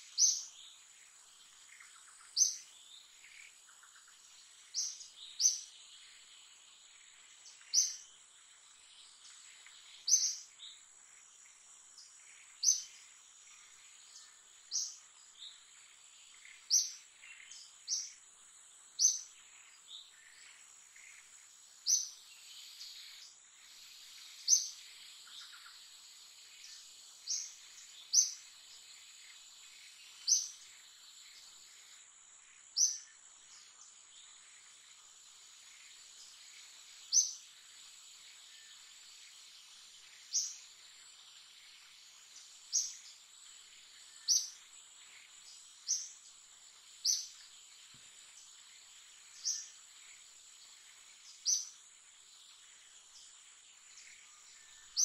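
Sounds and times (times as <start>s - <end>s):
bird chirping: 0.0s - 55.0s
high insect drone: 0.0s - 55.0s.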